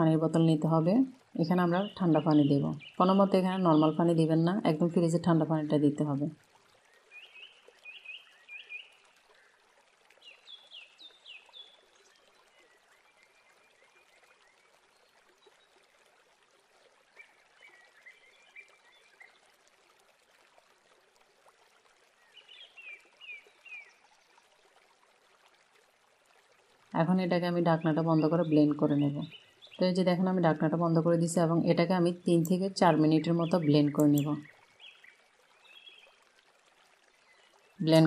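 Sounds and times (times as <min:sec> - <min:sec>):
faint steady hiss: 0:00.0 - 0:38.0.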